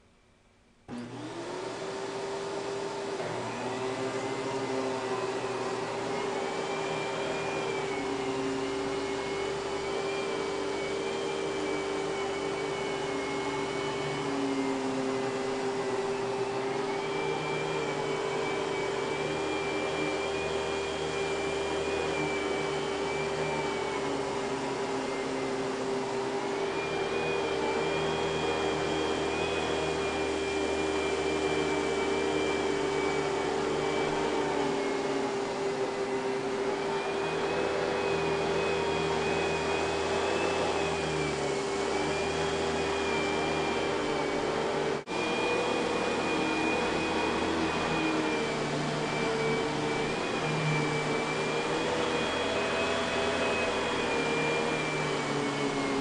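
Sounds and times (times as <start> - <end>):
vacuum cleaner running on carpet: 0.9 - 56.0.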